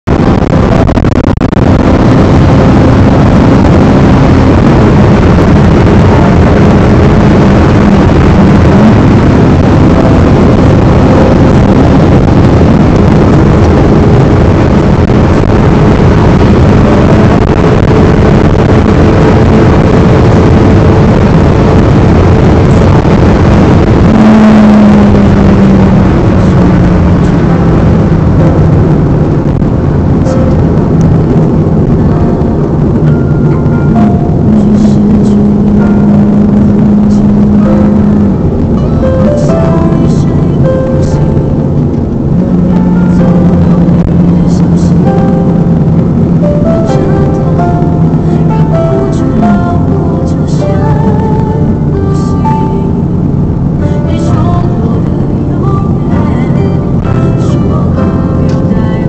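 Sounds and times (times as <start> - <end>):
car engine: 0.0 - 59.0
road noise: 0.0 - 59.0.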